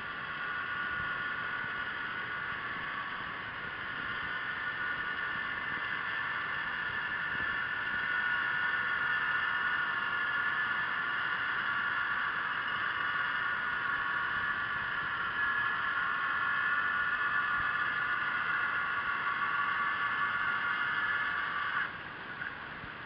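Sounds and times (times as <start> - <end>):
faint hiss: 0.0 - 23.0
underwater motor whine: 0.0 - 23.0.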